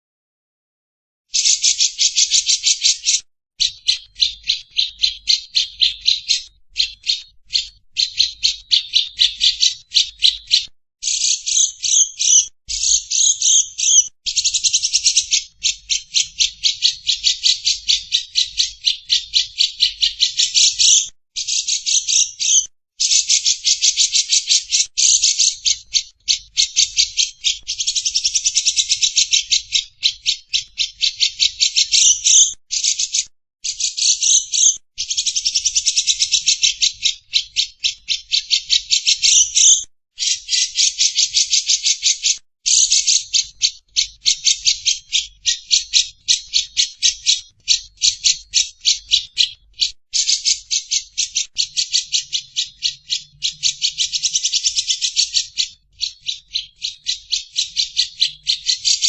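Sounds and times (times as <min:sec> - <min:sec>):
bulbul rasping calls: 0:01.4 - 0:59.0
lovebird chattering: 0:01.4 - 0:59.0.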